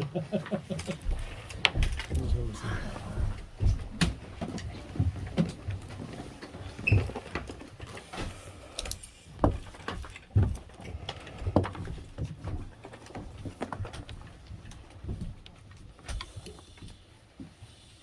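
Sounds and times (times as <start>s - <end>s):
equipment being handled: 0.4s - 18.0s.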